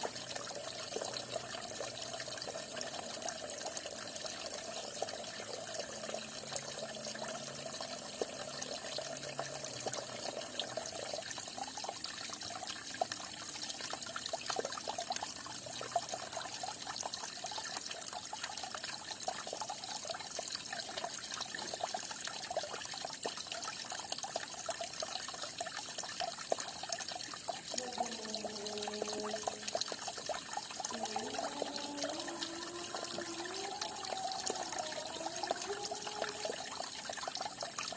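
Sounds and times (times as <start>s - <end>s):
falling water trickling: 0.0s - 37.9s.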